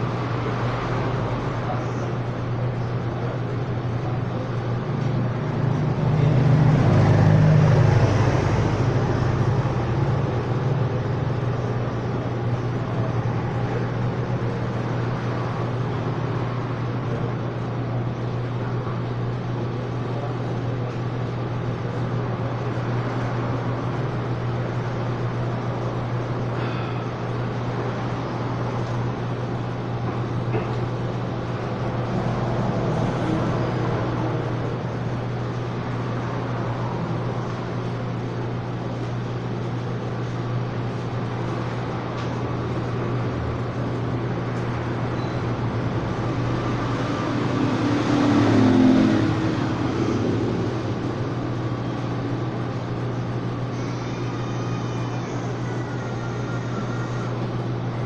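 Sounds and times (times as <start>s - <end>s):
low machine hum: 0.0s - 58.0s
noisy background: 0.0s - 58.0s.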